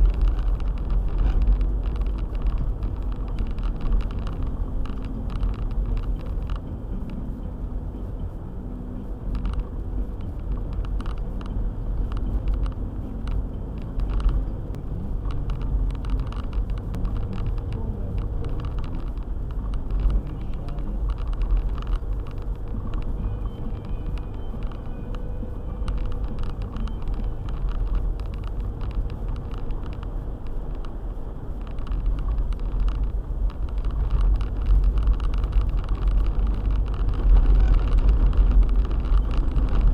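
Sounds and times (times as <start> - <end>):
faint clicks and knocks: 0.0 - 7.2, 9.3 - 39.9
car engine and tyres rumbling: 0.0 - 39.9.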